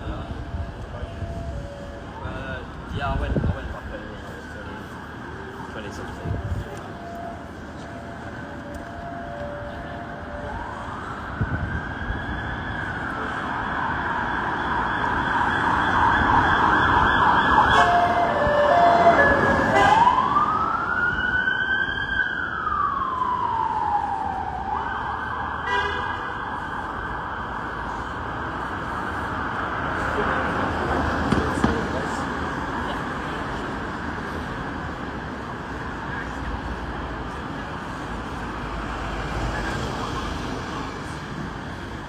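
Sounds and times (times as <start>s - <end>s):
emergency siren wailing: 0.0s - 35.4s
street traffic noise: 0.0s - 42.0s.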